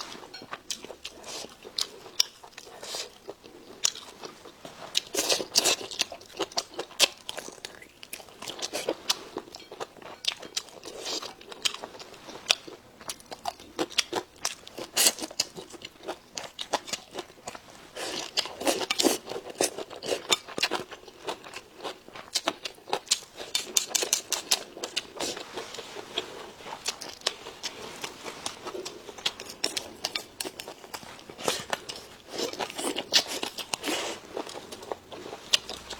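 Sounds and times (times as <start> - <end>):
chewing and crunching food: 0.0 - 35.9.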